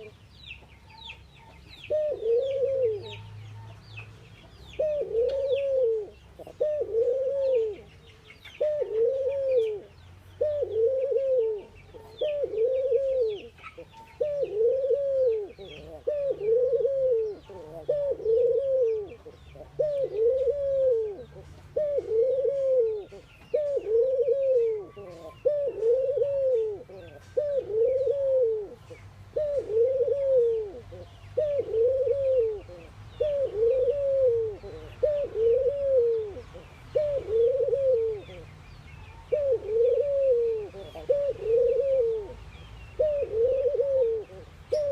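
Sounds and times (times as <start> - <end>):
doves cooing: 0.0 - 0.2, 0.9 - 3.7, 4.6 - 44.9
small birds chirping faintly: 0.0 - 44.9.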